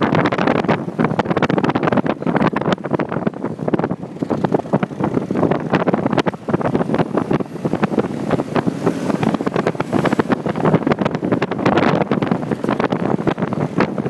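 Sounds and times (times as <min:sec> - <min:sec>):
gusty wind buffeting microphone: 0:00.0 - 0:14.0
motorcycle engine running: 0:00.0 - 0:14.0.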